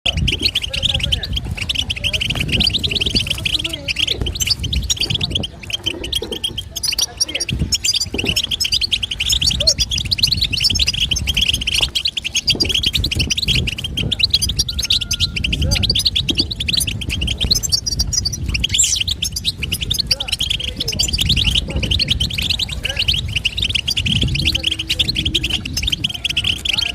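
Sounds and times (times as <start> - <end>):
goldfinch twittering call: 0.1 - 26.9.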